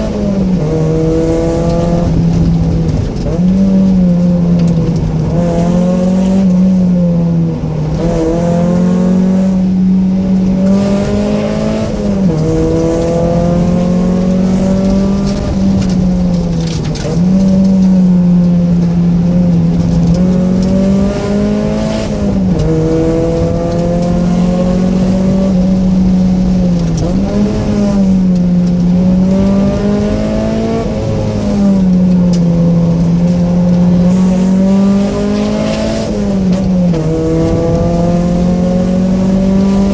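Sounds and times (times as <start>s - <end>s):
car engine revving hard: 0.0s - 39.9s.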